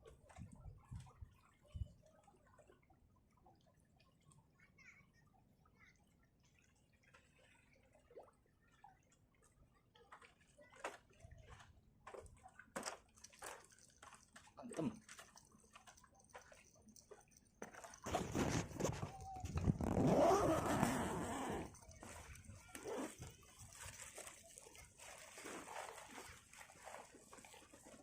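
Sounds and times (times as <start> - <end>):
water drips and splashes: 0.0 - 20.0, 21.2 - 28.0.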